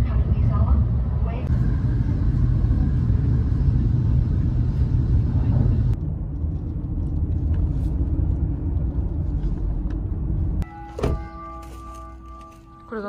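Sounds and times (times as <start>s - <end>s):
train running rumble: 0.0s - 13.0s
vehicle running rumble: 0.0s - 13.0s.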